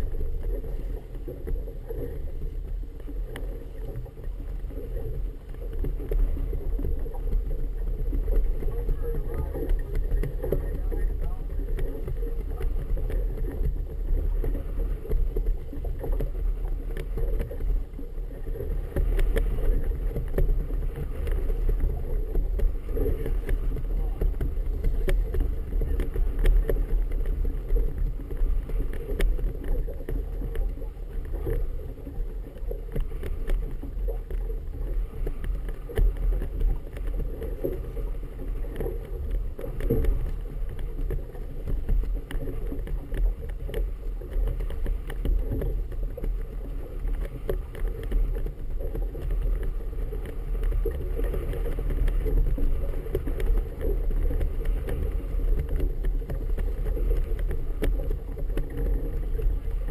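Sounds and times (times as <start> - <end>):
wind rumbling on microphone: 0.0 - 59.9.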